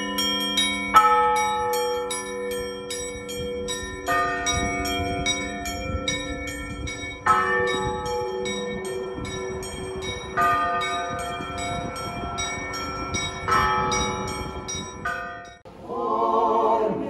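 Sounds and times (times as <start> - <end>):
heavy deep church bells: 0.0 - 15.6
small church bells ringing: 0.0 - 15.6.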